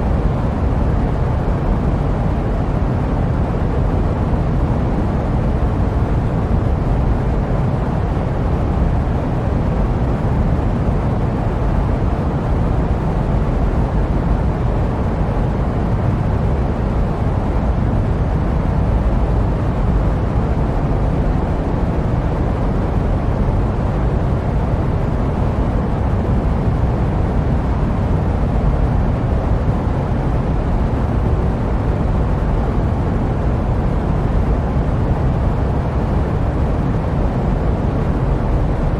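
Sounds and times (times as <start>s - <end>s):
jet aircraft rumble: 0.0s - 38.9s.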